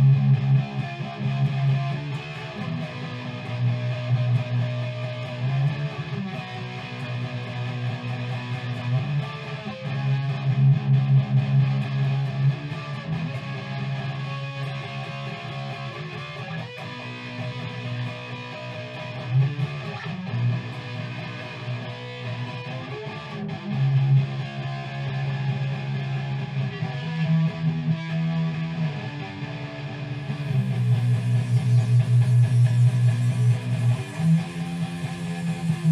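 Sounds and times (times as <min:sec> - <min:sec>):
electric guitar and bass music: 0:00.0 - 0:35.9.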